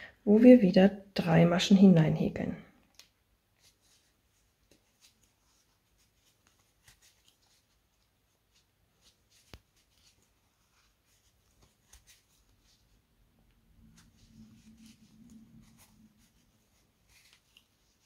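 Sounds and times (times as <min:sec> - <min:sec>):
crochet hook rustling cord: 0:02.9 - 0:18.0.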